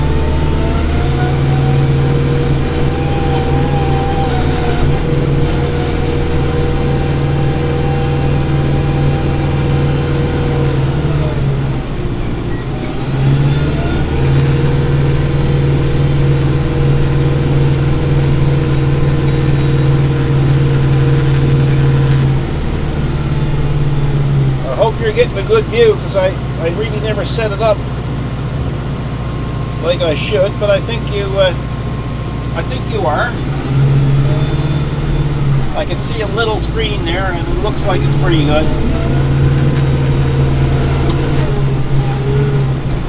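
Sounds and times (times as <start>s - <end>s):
diesel tractor engine under load: 0.0s - 43.0s
high whine: 0.0s - 43.0s.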